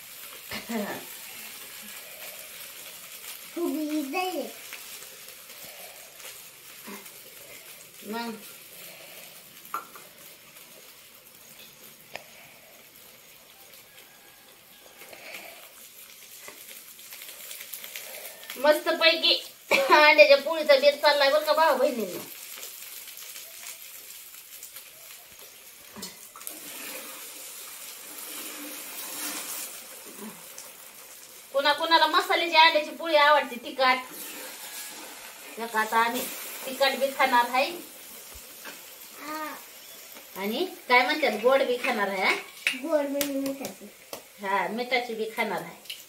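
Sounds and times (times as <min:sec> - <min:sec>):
flatbread sizzling in a pan: 0:00.0 - 0:46.0.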